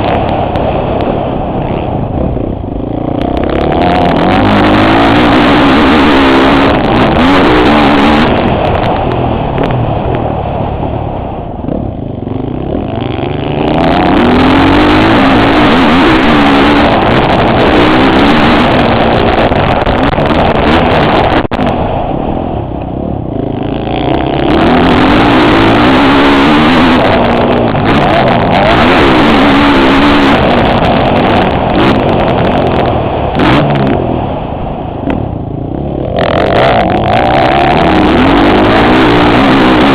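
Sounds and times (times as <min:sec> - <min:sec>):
motocross bike engine revving: 0:00.0 - 0:10.6, 0:11.6 - 0:22.0, 0:23.0 - 0:39.9.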